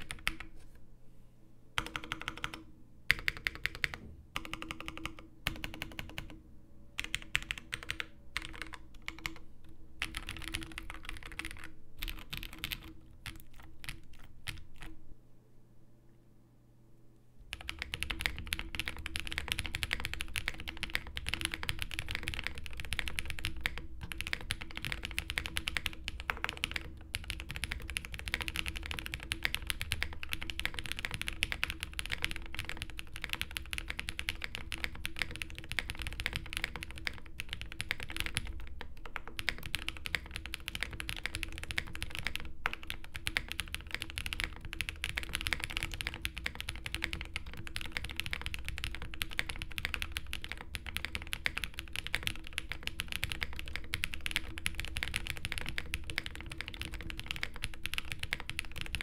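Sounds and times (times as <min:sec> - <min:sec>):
fast typing on mechanical keyboard: 0:00.0 - 0:00.5, 0:01.8 - 0:06.4, 0:07.0 - 0:09.4, 0:10.0 - 0:15.0, 0:17.5 - 0:59.0.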